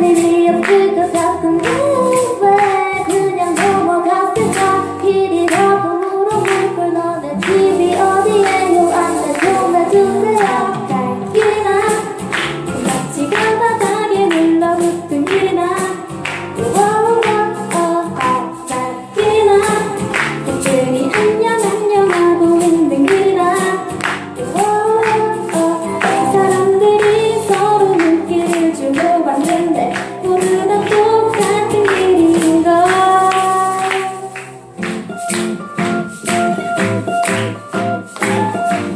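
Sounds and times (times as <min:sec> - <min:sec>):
person singing lead: 0:00.0 - 0:34.7
live band playing: 0:00.0 - 0:38.9.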